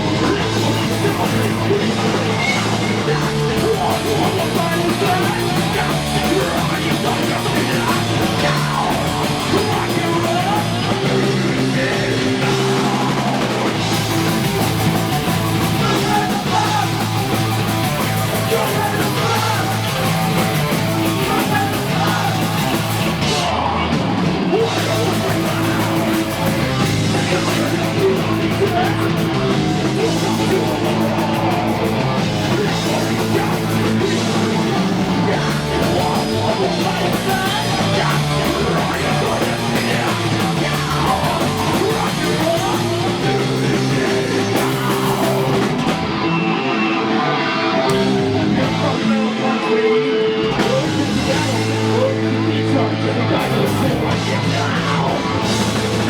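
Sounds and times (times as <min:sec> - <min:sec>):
bass guitar: 0:00.0 - 0:56.0
distorted electric guitar: 0:00.0 - 0:56.0
drums: 0:00.0 - 0:56.0.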